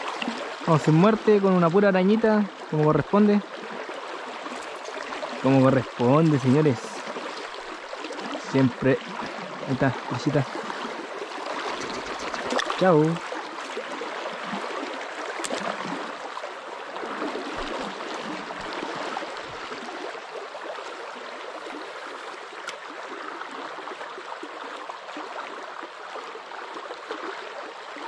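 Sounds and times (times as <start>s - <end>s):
river flowing: 0.0s - 28.0s.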